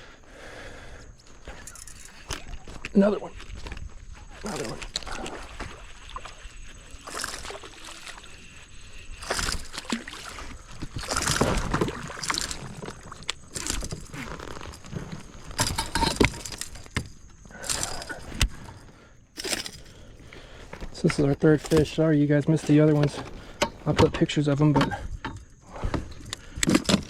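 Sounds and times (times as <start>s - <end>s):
gear rattling: 1.4s - 5.6s, 6.4s - 27.0s
water splashing against kayak: 1.6s - 27.0s.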